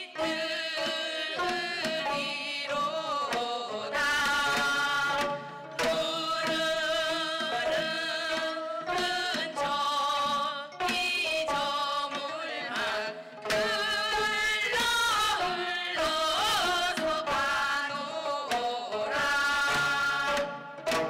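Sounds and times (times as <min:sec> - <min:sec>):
people singing in unison: 0:00.0 - 0:21.0.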